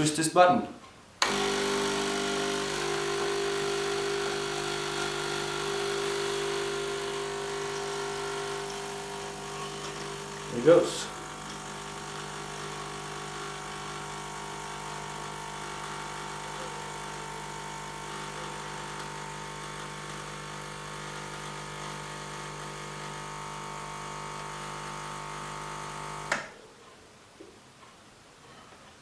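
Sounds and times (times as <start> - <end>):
espresso machine pump buzzing: 1.2 - 26.5.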